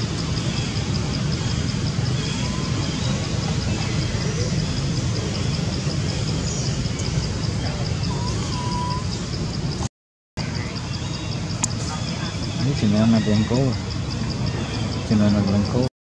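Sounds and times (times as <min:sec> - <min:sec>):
low background rumble: 0:00.0 - 0:15.9.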